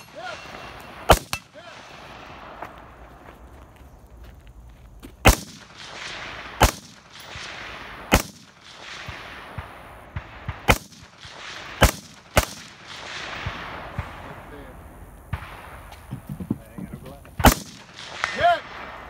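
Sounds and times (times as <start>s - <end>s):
rifle shots with echo: 0.0s - 2.6s, 5.2s - 16.4s, 17.4s - 19.0s.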